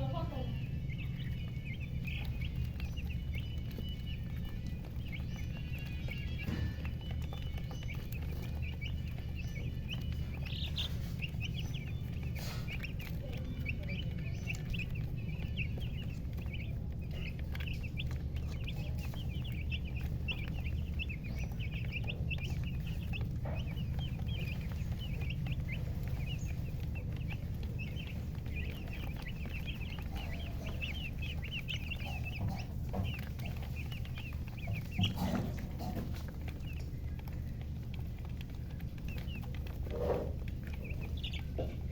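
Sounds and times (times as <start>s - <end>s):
chicks peeping: 0.0s - 41.9s
low steady hum: 0.0s - 41.9s.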